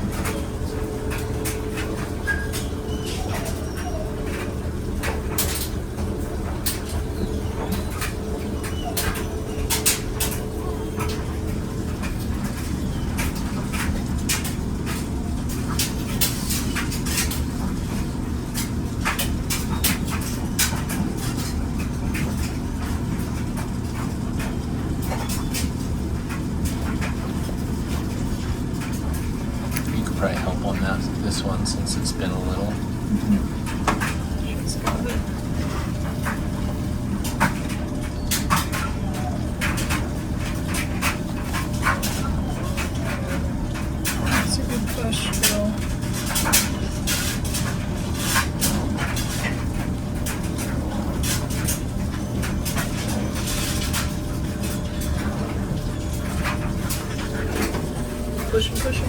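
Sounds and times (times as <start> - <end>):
clothes dryer rumbling: 0.0 - 59.0.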